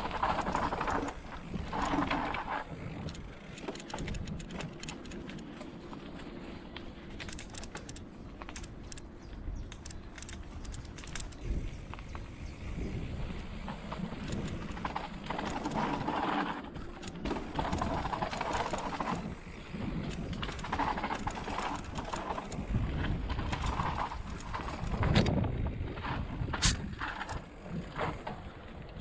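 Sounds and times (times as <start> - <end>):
bike tyres rumbling on dirt: 0.0 - 8.5, 10.5 - 29.0
bike knocking and rattling: 0.0 - 29.0.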